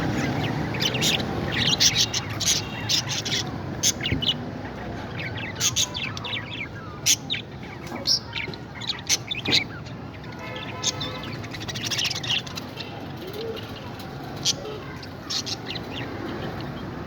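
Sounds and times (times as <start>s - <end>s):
parrots chirping and calling: 0.0s - 17.0s.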